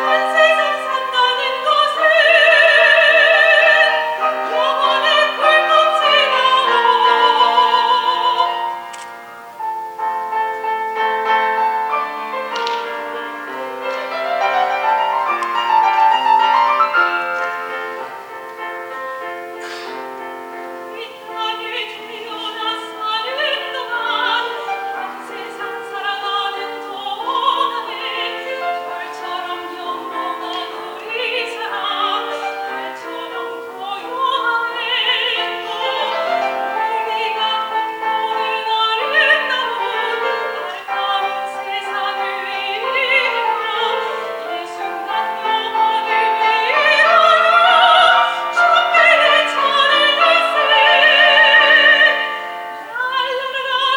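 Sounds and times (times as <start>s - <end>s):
piano accompaniment: 0.0s - 53.9s
soprano singing with vibrato: 0.0s - 53.9s.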